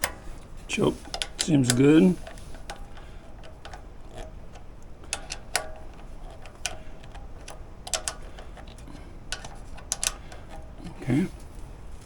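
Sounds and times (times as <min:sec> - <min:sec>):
low steady hum: 0:00.0 - 0:12.0
small metal parts clicking: 0:01.0 - 0:11.5.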